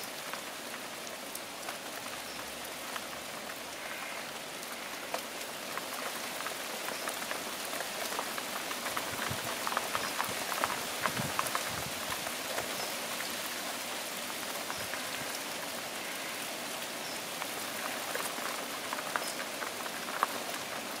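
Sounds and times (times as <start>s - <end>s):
raindrops ticking: 0.0s - 21.0s
steady rain hiss: 0.0s - 21.0s.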